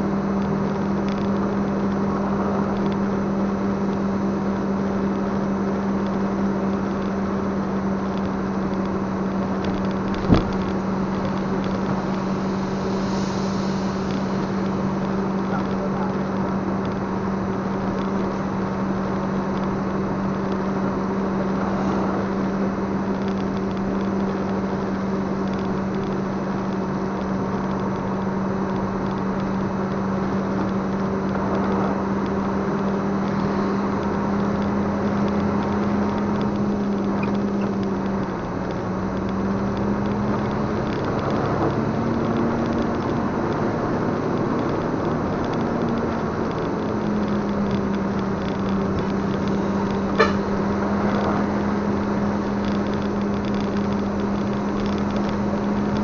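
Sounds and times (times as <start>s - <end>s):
tyre noise on wet road: 0.0s - 56.0s
vehicle engine humming: 0.0s - 56.0s.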